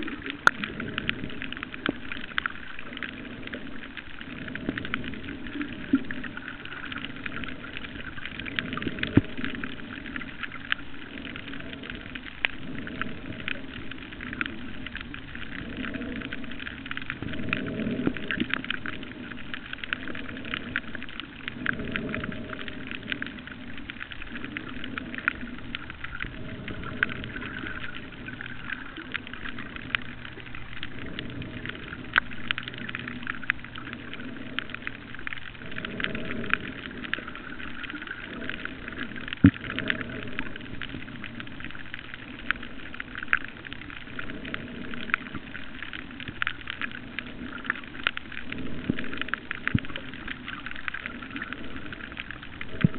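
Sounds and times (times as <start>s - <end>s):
low underwater rumble: 0.0s - 52.9s.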